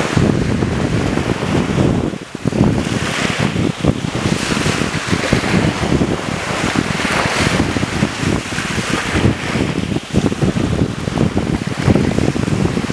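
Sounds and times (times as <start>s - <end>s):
small waves breaking on sand: 0.0s - 12.9s
wind buffeting microphone: 0.0s - 12.9s.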